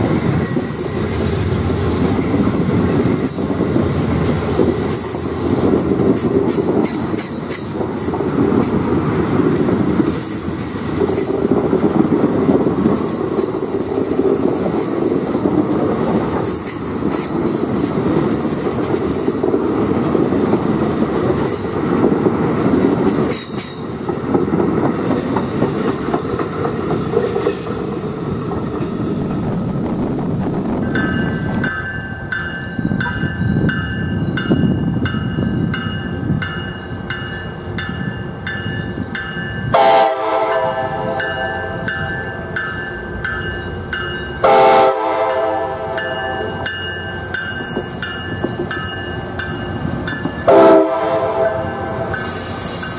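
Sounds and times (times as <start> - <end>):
train wheels rumbling and clicking: 0.0 - 45.0, 45.8 - 52.9.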